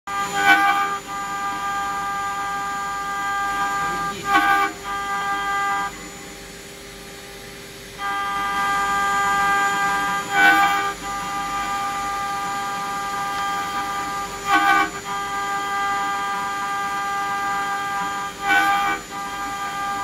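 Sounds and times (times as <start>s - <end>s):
cnc router whining squeal: 0.1s - 20.0s
low machine hum: 0.1s - 20.0s.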